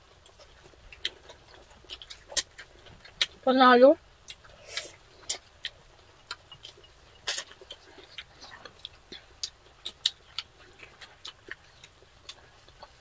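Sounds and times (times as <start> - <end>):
wet chewing and mouth smacks: 0.1 - 3.4, 4.2 - 13.0.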